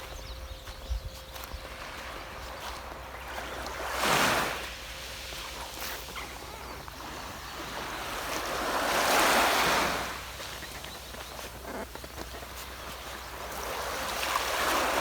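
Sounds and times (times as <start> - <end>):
sea waves washing onto beach: 1.3 - 15.0.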